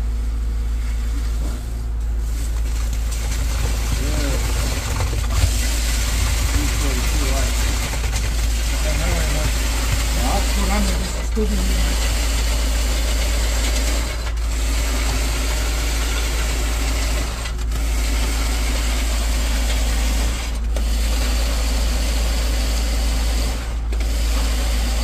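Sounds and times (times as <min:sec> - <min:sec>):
concrete pump engine running: 0:00.0 - 0:25.0.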